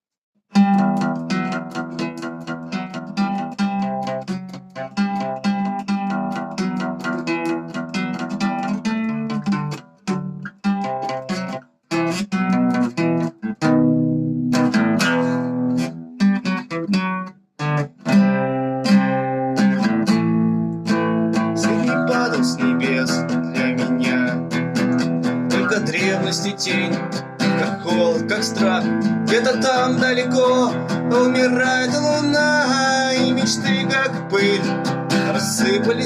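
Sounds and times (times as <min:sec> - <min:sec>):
acoustic guitar strumming: 0:00.5 - 0:36.0.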